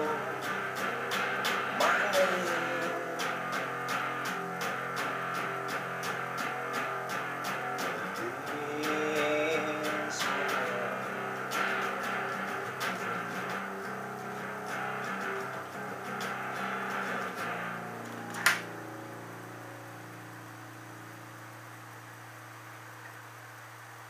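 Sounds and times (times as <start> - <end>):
electric guitar playing: 0.0 - 23.4.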